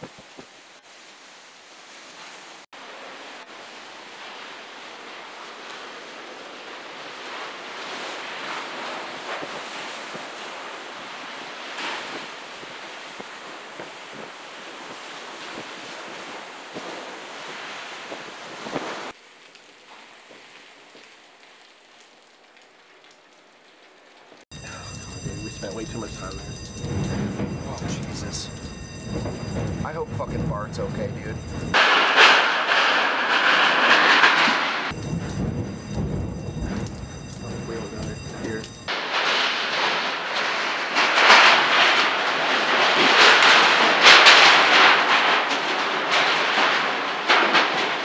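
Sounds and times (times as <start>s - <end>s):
strong wind gusting through building: 0.0s - 19.2s, 24.5s - 48.0s.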